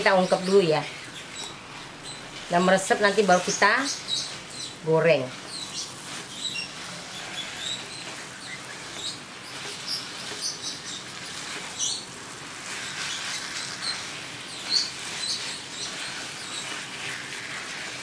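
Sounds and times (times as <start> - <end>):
food sizzling: 0.0 - 18.0
spatula scraping a wok: 0.0 - 18.0.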